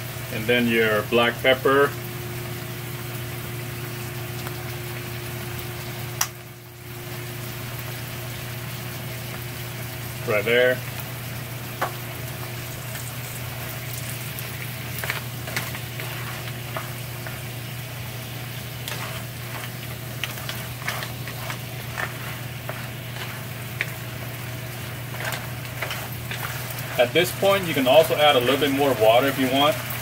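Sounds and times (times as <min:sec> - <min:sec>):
crab sizzling in hot oil: 0:00.0 - 0:30.0.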